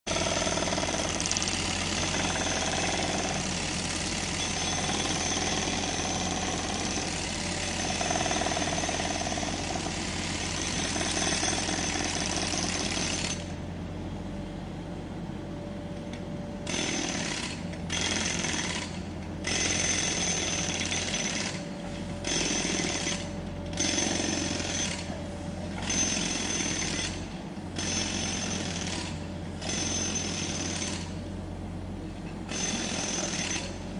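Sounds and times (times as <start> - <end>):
jackhammer hammering: 0.1 - 13.5, 16.7 - 21.6, 22.2 - 25.1, 25.8 - 31.2, 32.5 - 33.8.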